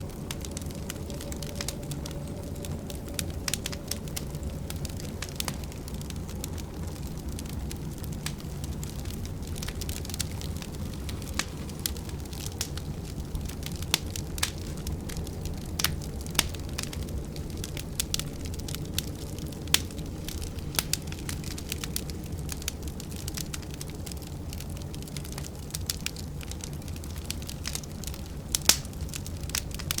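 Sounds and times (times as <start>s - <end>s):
storm wind rumble: 0.0s - 30.0s
wood fire crackling and popping: 0.0s - 30.0s.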